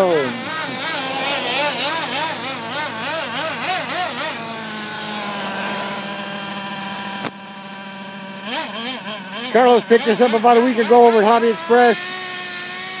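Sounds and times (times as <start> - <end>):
rc truck engine revving: 0.0 - 13.0.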